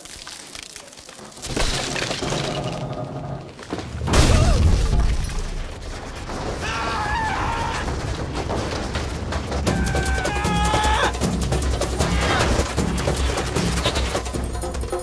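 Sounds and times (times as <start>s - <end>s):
wood breaking and cracking: 0.0s - 14.3s
rumbling rolling noise: 1.8s - 14.8s.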